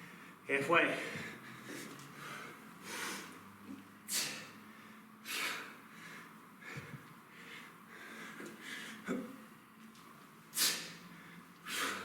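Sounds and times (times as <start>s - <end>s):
man breathing hard: 0.0s - 9.4s, 10.5s - 12.0s.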